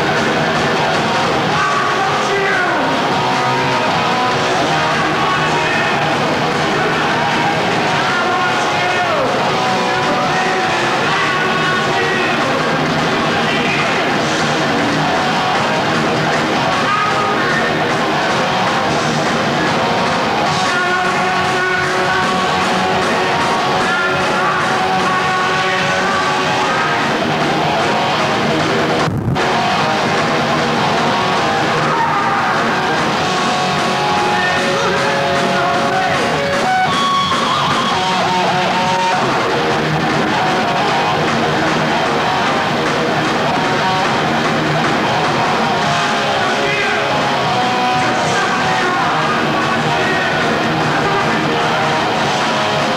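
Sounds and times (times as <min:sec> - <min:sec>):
heavy metal band playing live: 0:00.0 - 0:52.9.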